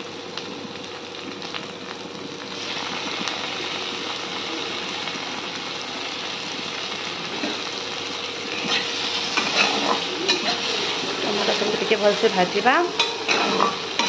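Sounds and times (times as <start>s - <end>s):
onions sizzling in a pan: 0.0s - 14.0s.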